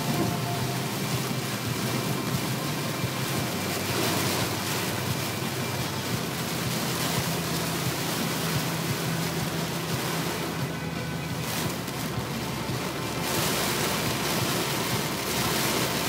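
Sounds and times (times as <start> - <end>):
low road drone: 0.0 - 16.0
rain on car roof: 0.0 - 16.0
tyres through standing water: 0.0 - 16.0.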